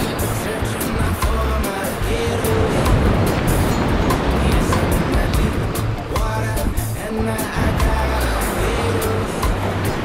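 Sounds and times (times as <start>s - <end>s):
background music with steady beat: 0.0s - 10.0s
surf: 0.0s - 10.0s
wind: 0.0s - 10.0s.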